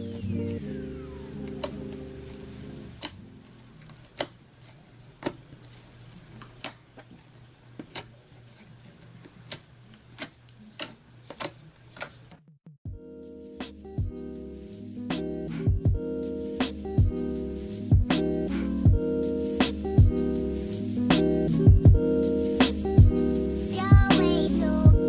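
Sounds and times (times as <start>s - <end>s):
faint music: 0.0s - 25.0s.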